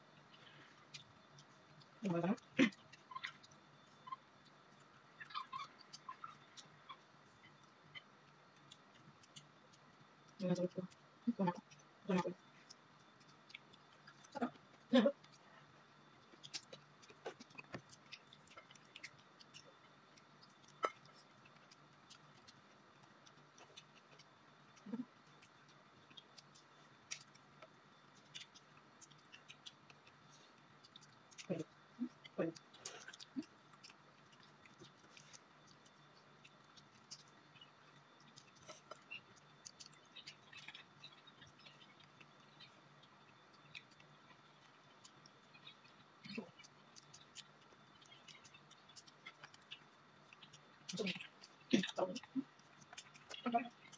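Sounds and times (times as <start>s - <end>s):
chewing clicks and smacks: 0.0s - 53.9s
crispy food crackling: 0.0s - 53.9s
faint low hum: 0.0s - 53.9s.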